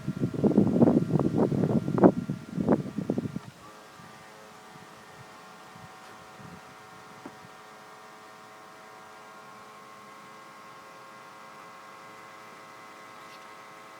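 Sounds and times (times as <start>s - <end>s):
electric motor humming: 0.0s - 13.9s.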